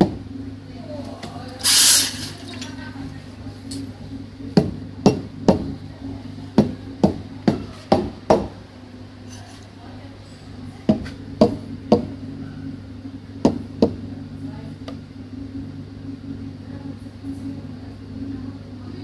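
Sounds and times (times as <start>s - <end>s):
espresso machine hum: 0.0s - 19.0s.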